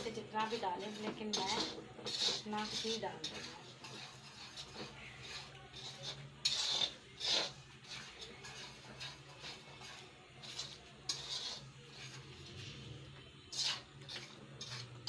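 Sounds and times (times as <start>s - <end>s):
metal spatula scraping iron pan: 0.0s - 15.0s.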